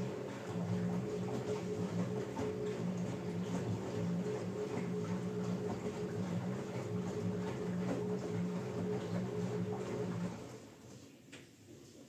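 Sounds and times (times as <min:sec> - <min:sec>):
washing machine motor hum: 0:00.0 - 0:11.0
laundry sloshing in drum: 0:00.0 - 0:12.0.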